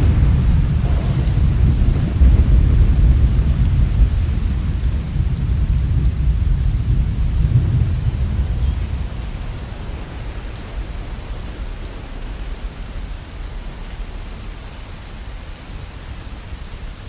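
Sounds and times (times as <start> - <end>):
deep thunder rumble: 0.0 - 13.7
heavy rain falling: 0.0 - 17.0.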